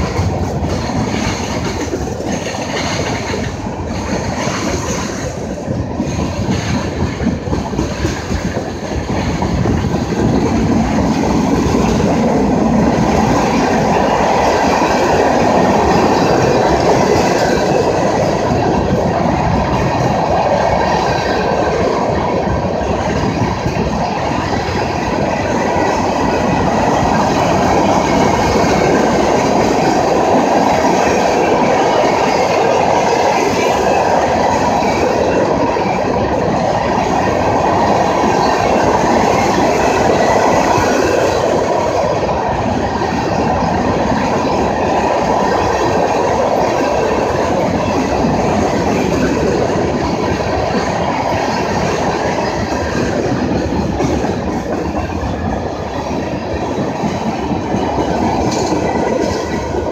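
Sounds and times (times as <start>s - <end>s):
steel train wheels rolling on rails: 0.0s - 59.9s.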